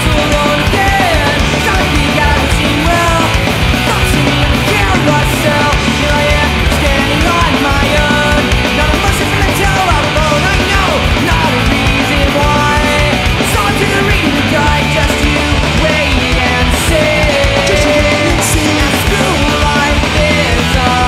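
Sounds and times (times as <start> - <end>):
punk rock band playing: 0.0 - 21.0.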